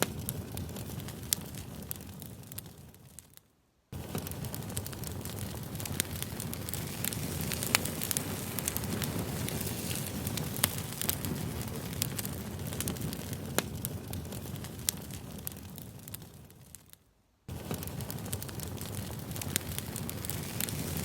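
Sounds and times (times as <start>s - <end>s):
burning wood crackling and popping: 0.0s - 21.0s
low rumble of flames: 0.0s - 21.0s.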